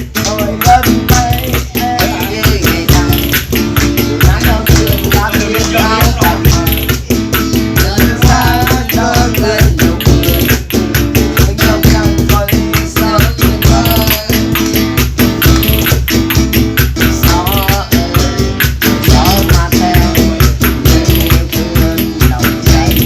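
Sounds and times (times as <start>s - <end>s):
guitar music: 0.0s - 23.0s
percussion beat: 0.0s - 23.0s.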